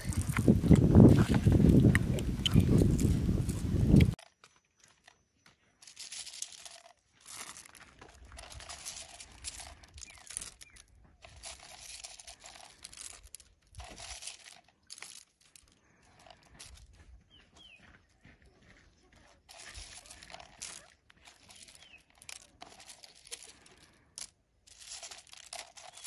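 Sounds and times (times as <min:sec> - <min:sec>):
leaves rustling and crinkling: 0:00.0 - 0:04.3, 0:05.8 - 0:16.8, 0:19.5 - 0:26.0.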